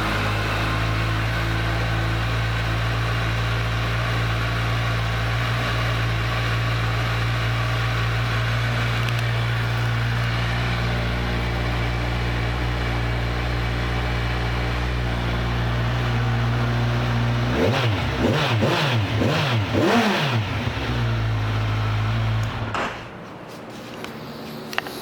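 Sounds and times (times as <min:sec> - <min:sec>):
motorcycle engine idling: 0:00.0 - 0:23.2.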